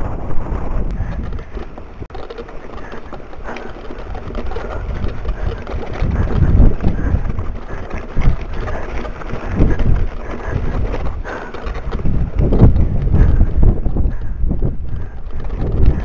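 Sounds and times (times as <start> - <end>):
bike rattling over rocks: 0.0 - 16.0
wind buffeting microphone: 0.0 - 16.0.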